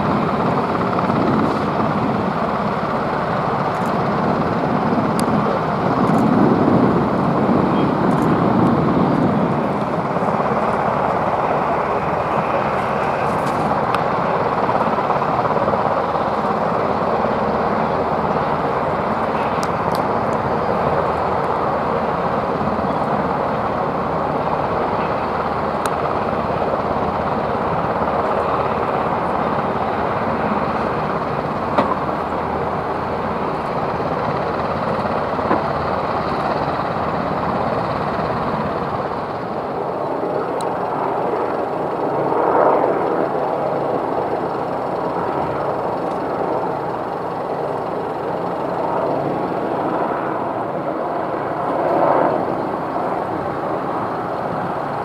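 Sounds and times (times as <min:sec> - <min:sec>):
tracked vehicles engines and tracks: 0:00.0 - 0:55.0.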